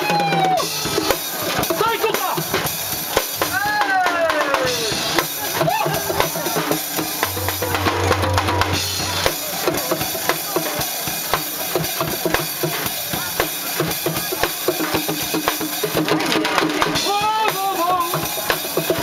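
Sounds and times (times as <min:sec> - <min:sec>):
drums beating quick rhythm: 0:00.0 - 0:19.0
music: 0:00.0 - 0:19.0.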